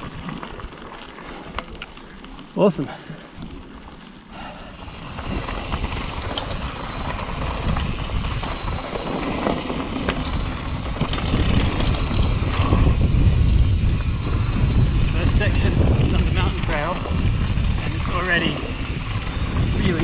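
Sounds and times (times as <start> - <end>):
wind rumbling on microphone: 0.0 - 2.2, 3.4 - 20.0
bike rattling and clicking: 0.0 - 20.0
bike tyres crunching over gravel: 0.0 - 20.0.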